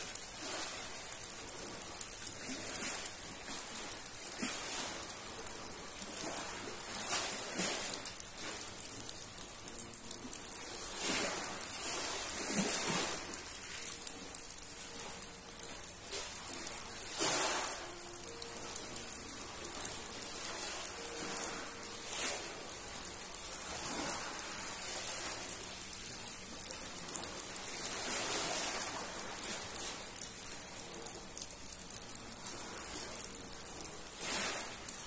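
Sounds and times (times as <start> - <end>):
rain pattering: 0.0 - 35.0
waves washing onto pebbles: 0.0 - 35.0.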